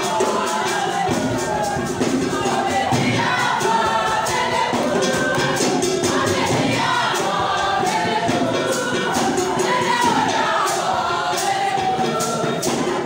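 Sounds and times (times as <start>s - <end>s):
choir singing: 0.0s - 13.0s
percussion beat: 0.0s - 13.0s.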